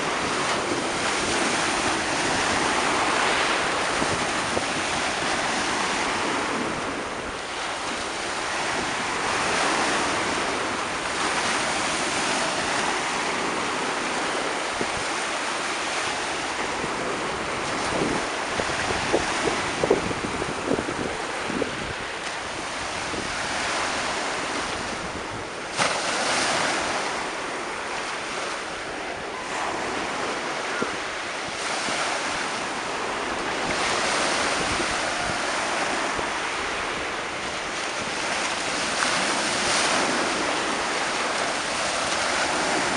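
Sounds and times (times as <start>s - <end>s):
waves breaking on beach: 0.0s - 42.9s.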